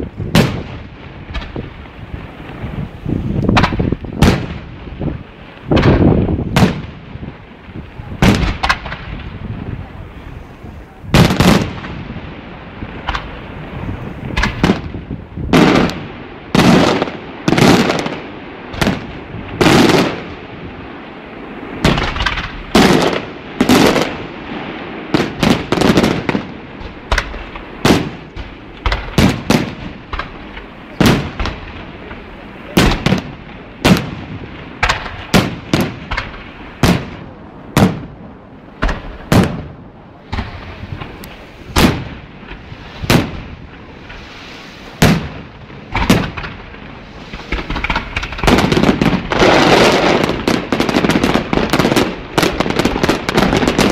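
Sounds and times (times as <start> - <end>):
firework bangs with rumbling echo: 0.0 - 53.9.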